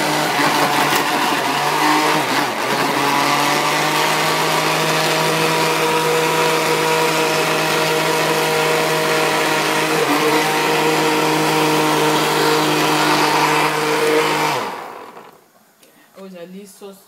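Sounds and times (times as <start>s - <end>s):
blender motor whine: 0.0s - 15.4s.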